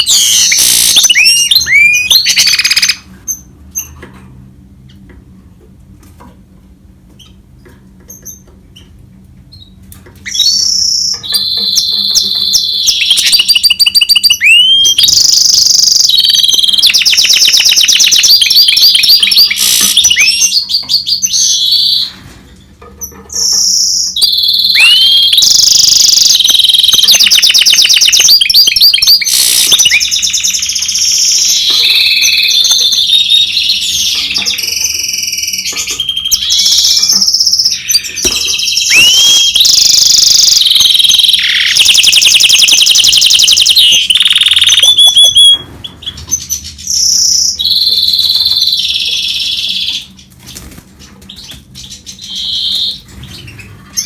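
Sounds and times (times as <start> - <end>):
bird singing trills and whistles: 0.0 - 3.9, 10.3 - 22.2, 23.4 - 50.7, 51.3 - 54.0.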